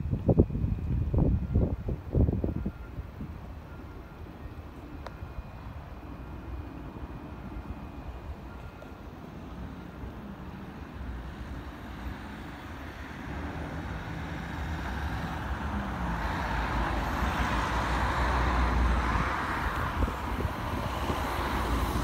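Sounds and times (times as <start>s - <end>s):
traffic rumble: 0.0s - 22.0s
vehicle tyre and engine noise: 0.0s - 22.0s.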